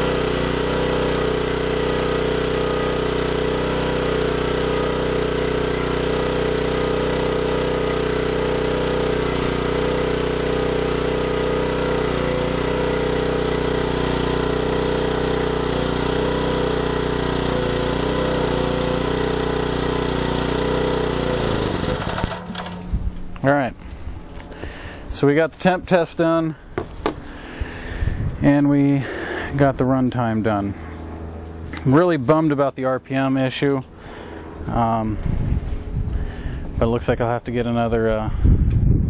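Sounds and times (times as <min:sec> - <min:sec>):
portable generator engine running: 0:00.0 - 0:38.7.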